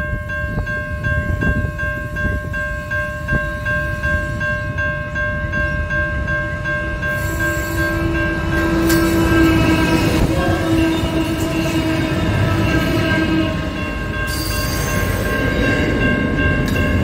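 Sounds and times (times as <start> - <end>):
level crossing warning bells: 0.0 - 17.0
low steady train tone: 0.0 - 17.0
diesel locomotive rumble: 0.2 - 17.0.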